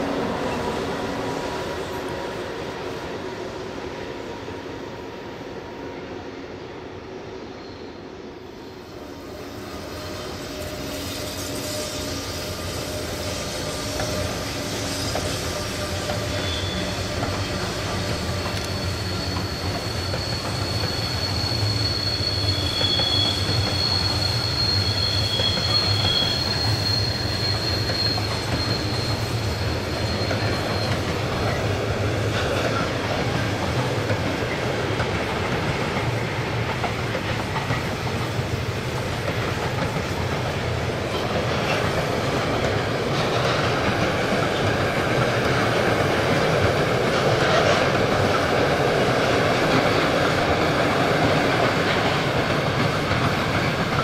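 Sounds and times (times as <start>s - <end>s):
train rumble: 0.0s - 6.0s, 8.4s - 54.0s
train wheels squealing on rails: 0.0s - 54.0s.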